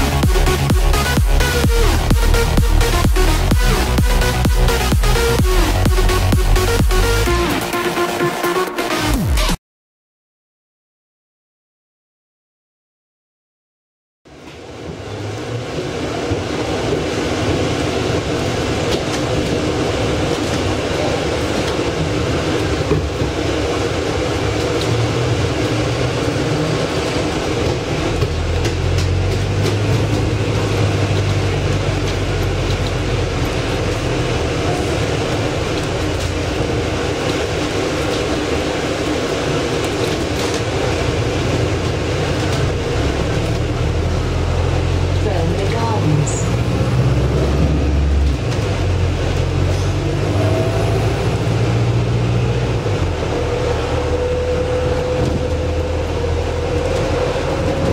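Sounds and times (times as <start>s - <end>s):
bus engine hum: 0.0s - 9.2s, 14.3s - 57.9s
deeper drone: 0.0s - 9.6s, 14.3s - 57.9s.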